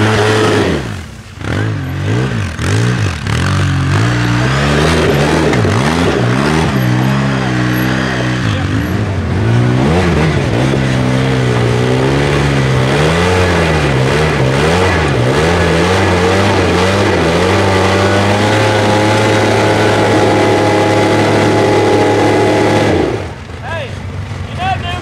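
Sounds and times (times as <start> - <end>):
off-road vehicle engine revving: 0.0 - 25.0.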